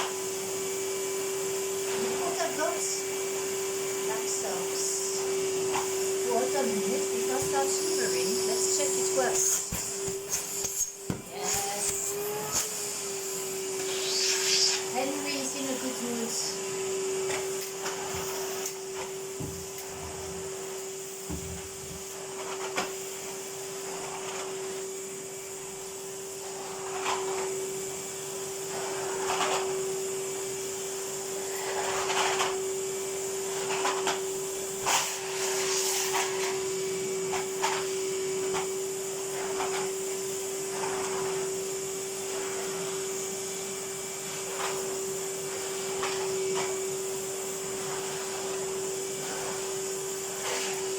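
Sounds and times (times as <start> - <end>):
vacuum cleaner motor hum: 0.0 - 50.9
vacuum floor tool swishing on carpet: 0.0 - 50.9.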